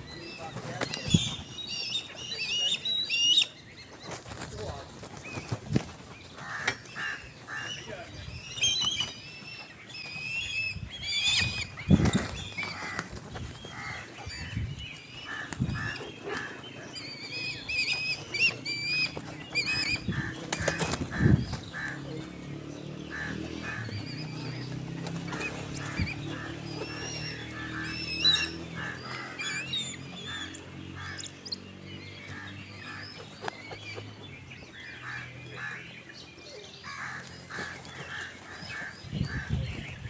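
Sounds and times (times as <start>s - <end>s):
kites calling: 0.0s - 34.7s.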